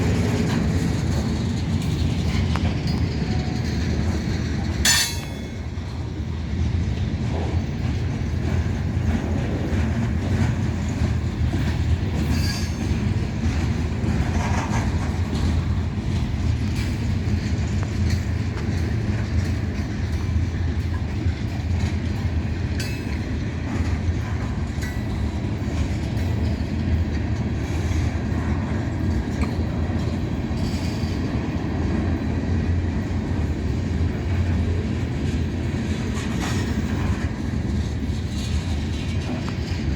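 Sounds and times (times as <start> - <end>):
train wheel squeals: 0.0 - 6.2, 8.4 - 32.1, 33.0 - 39.9
freight train wheels rumbling: 0.0 - 39.9.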